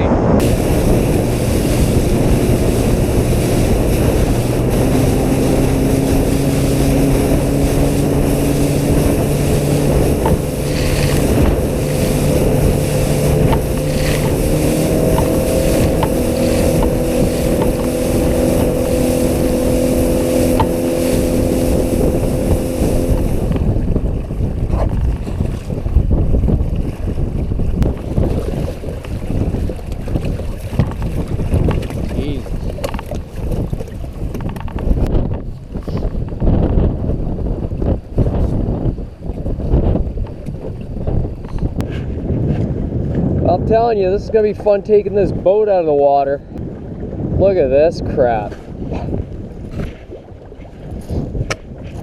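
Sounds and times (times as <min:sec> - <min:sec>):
boat motor running: 0:00.0 - 0:52.0
wind buffeting microphone: 0:00.0 - 0:52.0.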